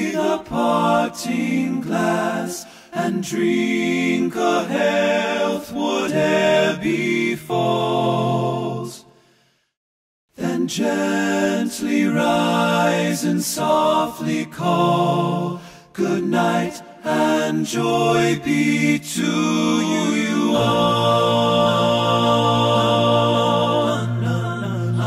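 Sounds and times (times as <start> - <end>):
voices singing in harmony: 0.0 - 9.4, 10.3 - 25.0.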